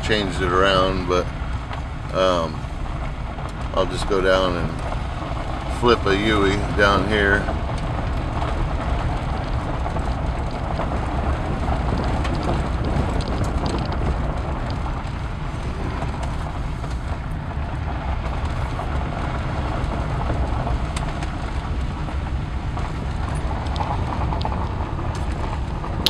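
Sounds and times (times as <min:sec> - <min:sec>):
car driving on dirt road: 0:00.0 - 0:26.0.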